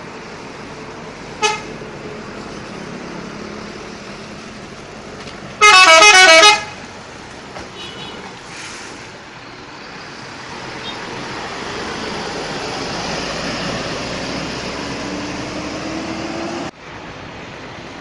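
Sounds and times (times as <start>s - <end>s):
heavy vehicle engine hum: 0.0s - 18.0s
road traffic noise: 0.0s - 18.0s.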